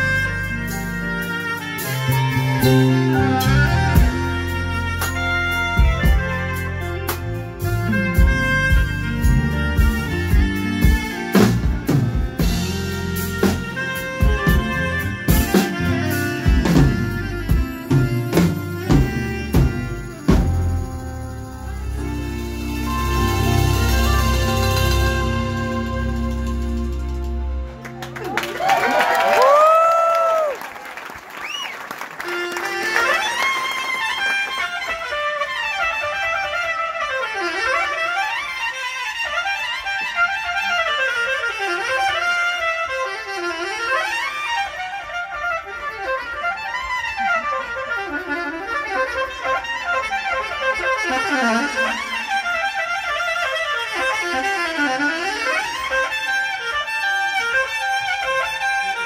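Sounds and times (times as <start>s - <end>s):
soprano saxophone melody: 0.0s - 28.7s, 32.2s - 59.0s.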